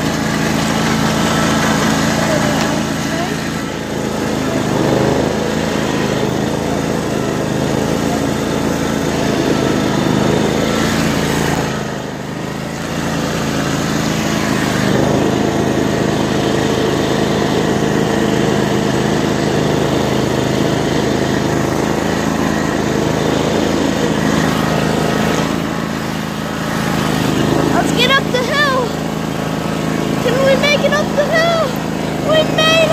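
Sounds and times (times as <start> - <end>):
riding mower engine running: 0.0 - 32.9.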